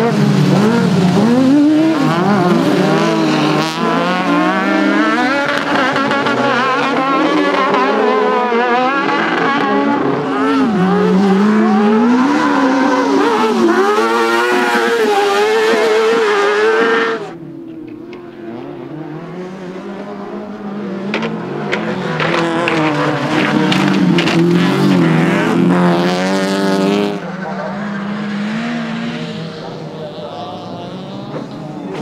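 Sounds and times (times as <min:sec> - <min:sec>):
buggy engine revving: 0:00.0 - 0:32.0
race car engine: 0:00.0 - 0:32.0.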